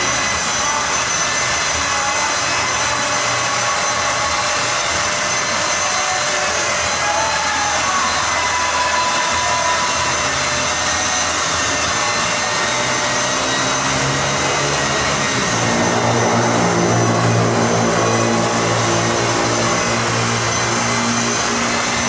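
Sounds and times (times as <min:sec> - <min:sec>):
loud machine whir: 0:00.0 - 0:22.0
low humming tone: 0:00.0 - 0:22.0.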